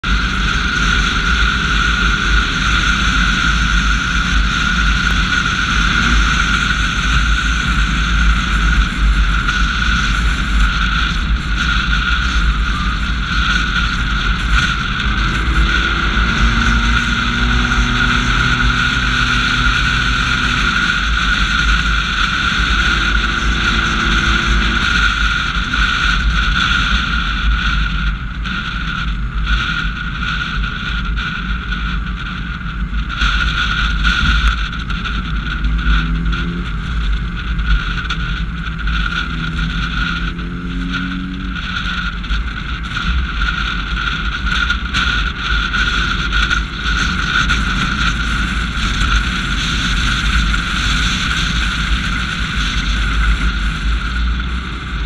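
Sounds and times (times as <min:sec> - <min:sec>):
high-pitched whine: 0:00.0 - 0:55.0
wind and road noise: 0:00.0 - 0:55.0.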